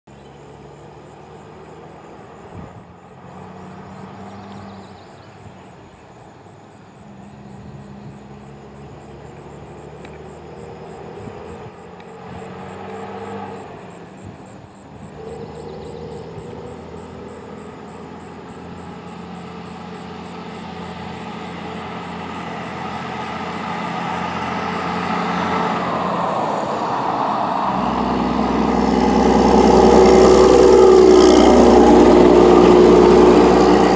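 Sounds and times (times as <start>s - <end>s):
truck diesel engine: 0.1s - 33.9s.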